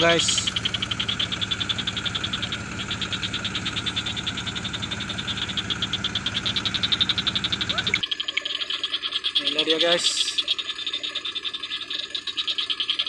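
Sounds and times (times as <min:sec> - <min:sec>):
frogs calling in rapid pulses: 0:00.0 - 0:13.0
low steady hum: 0:00.0 - 0:13.0.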